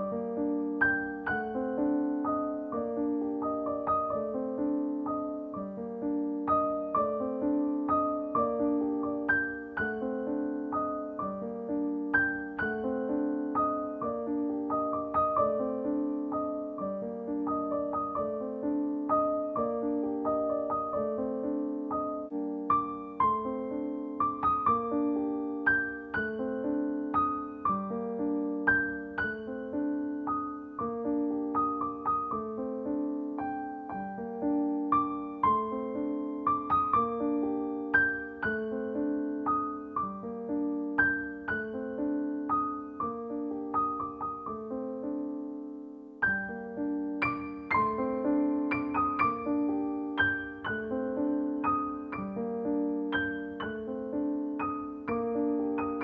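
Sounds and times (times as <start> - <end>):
gentle keyboard melody: 0.0 - 56.0.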